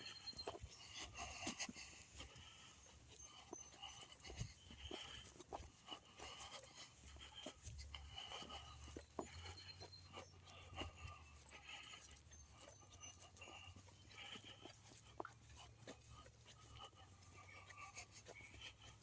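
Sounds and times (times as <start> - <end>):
footsteps on woodland trail: 0.0 - 19.0.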